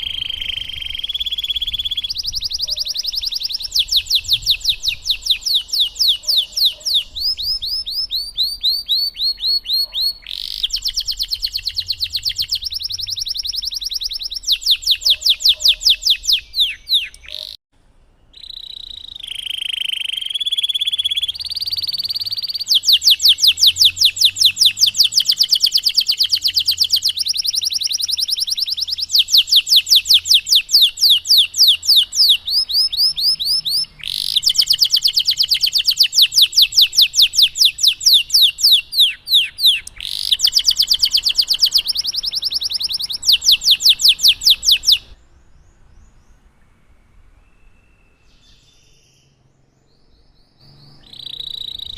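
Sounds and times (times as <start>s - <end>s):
canary singing trills: 0.0s - 17.6s, 18.2s - 46.5s, 47.2s - 51.9s.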